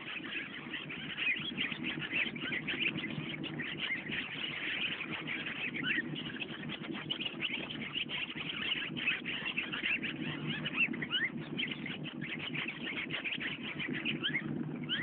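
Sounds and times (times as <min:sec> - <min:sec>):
birds chirping: 0:00.0 - 0:15.0
low background noise: 0:00.0 - 0:15.0.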